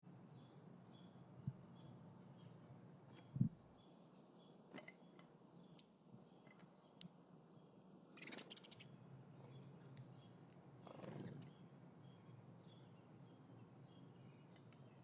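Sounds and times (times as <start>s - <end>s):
faint bird chirps: 0.3s - 15.0s.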